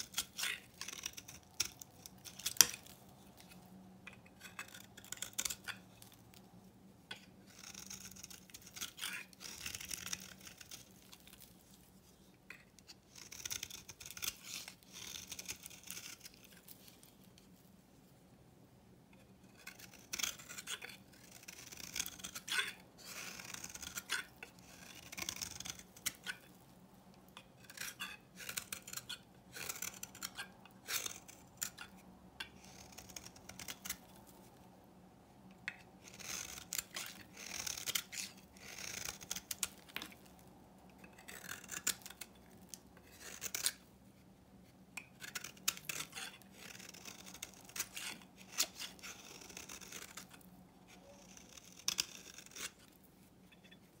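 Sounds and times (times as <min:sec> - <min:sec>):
knife scraping soap: 0:00.0 - 0:06.4, 0:07.1 - 0:17.5, 0:19.1 - 0:26.6, 0:27.3 - 0:34.6, 0:35.6 - 0:44.3, 0:44.9 - 0:54.0.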